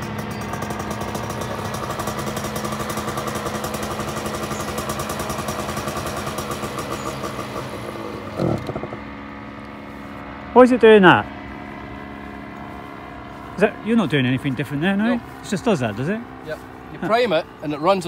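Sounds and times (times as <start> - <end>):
two-stroke engine idling: 0.0 - 18.0.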